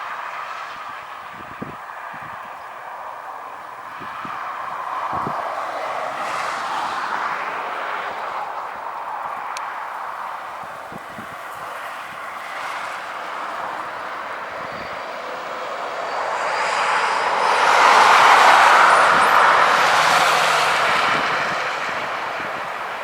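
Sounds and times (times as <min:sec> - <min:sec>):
jet airliner passing: 0:02.9 - 0:23.0.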